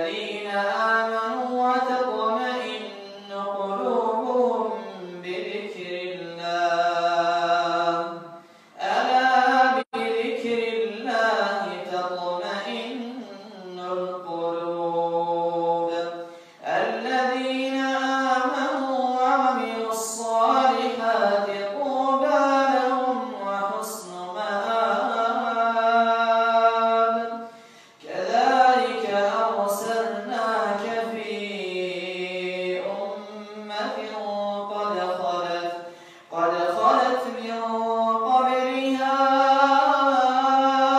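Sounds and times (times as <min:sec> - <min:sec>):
man chanting recitation: 0:00.0 - 0:40.9.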